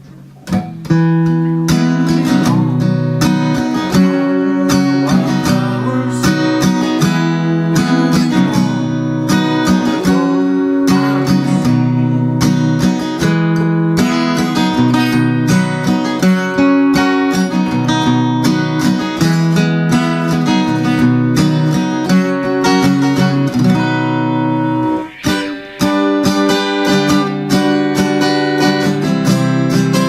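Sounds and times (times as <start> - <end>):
amplified acoustic guitar strummed: 0.0 - 30.0.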